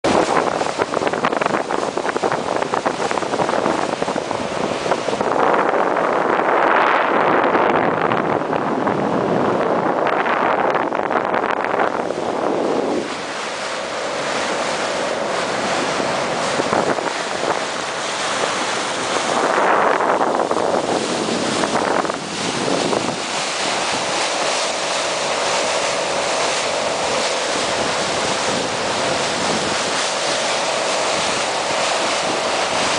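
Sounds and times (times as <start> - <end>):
water rushing past boat hull: 0.0 - 32.9
wind buffeting microphone: 0.0 - 32.9
boat engines humming: 0.1 - 32.9.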